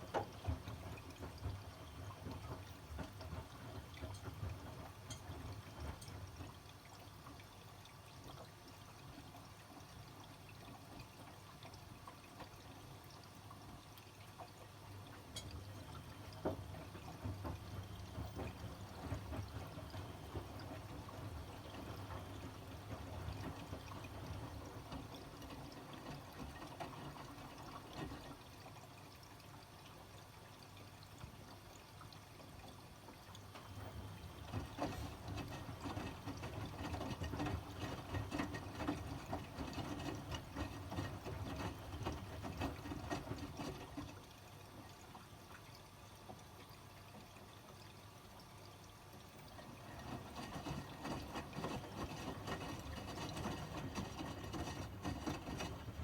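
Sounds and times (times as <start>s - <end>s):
water sloshing in washing machine: 0.0s - 56.0s.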